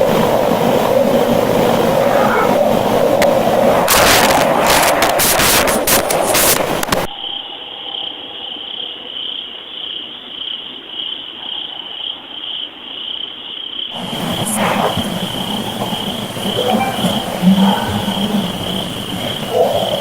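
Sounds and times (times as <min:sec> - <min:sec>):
night insects chirring: 0:00.0 - 0:20.0.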